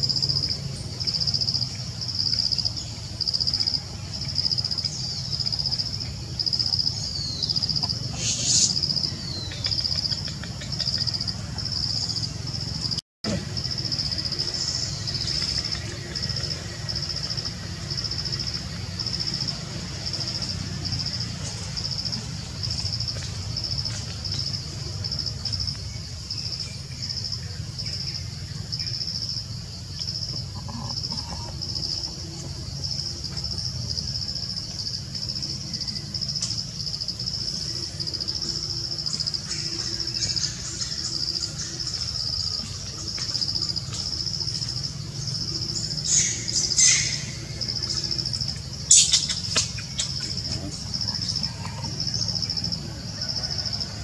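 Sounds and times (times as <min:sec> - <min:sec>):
high-pitched insect call: 0:00.0 - 0:54.0.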